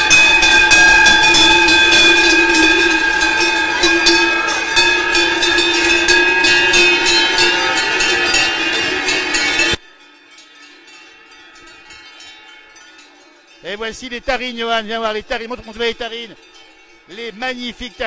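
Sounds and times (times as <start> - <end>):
cowbells clanging: 0.0 - 18.0.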